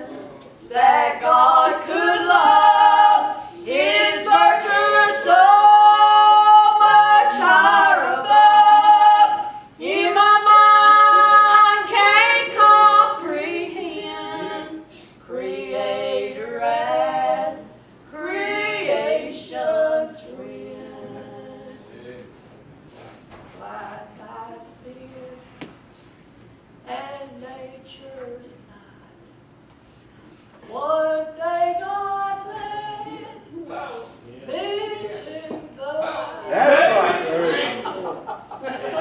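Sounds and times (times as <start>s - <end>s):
women singing a gospel song: 0.0s - 22.2s, 23.6s - 25.7s, 26.9s - 29.1s, 30.6s - 37.6s.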